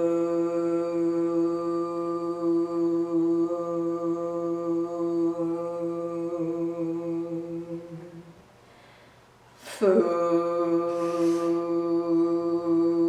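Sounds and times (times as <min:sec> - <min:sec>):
woman holding steady vocal tone: 0:00.0 - 0:08.5, 0:09.6 - 0:13.0.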